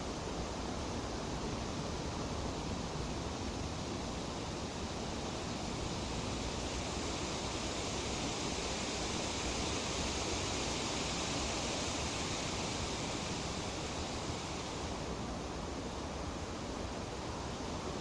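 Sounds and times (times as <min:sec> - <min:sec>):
wind rustling tree leaves: 0:01.5 - 0:18.0.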